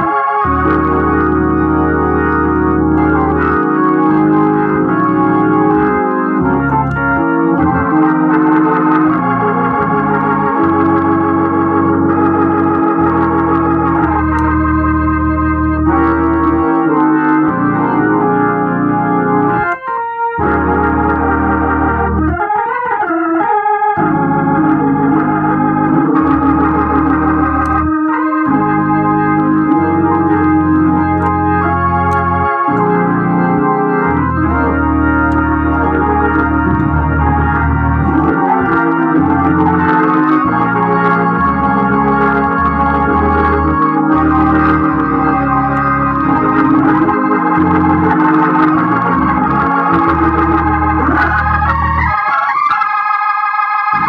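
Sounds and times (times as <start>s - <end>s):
organ chords over bass notes: 0.0s - 54.0s.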